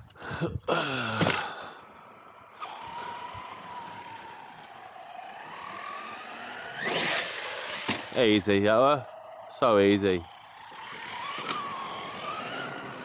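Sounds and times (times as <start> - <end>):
electric motor whining: 0.7 - 13.0.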